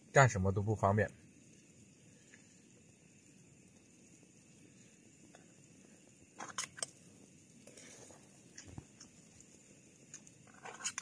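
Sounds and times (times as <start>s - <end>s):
camping stove hiss: 0.0s - 11.0s.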